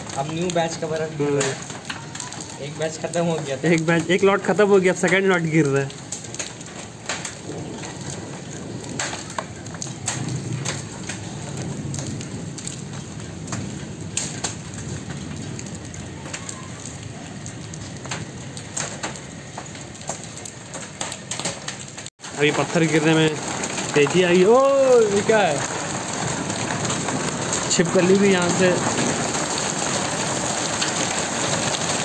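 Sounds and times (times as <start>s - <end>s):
hailstones clicking: 0.0s - 32.0s
rain on concrete: 0.0s - 32.0s.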